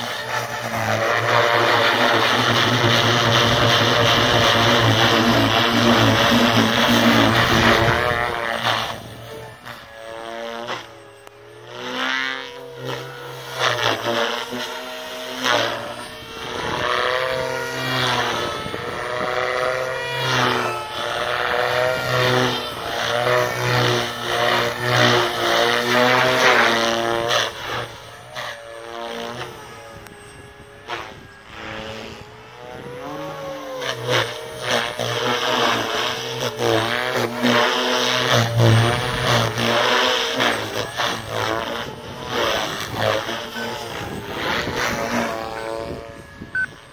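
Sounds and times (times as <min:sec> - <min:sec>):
rc helicopter motor and rotor whine: 0:00.0 - 0:46.9.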